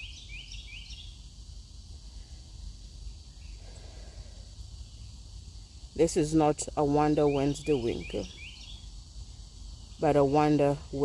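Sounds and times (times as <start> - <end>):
faint high insect drone: 0.0 - 11.0.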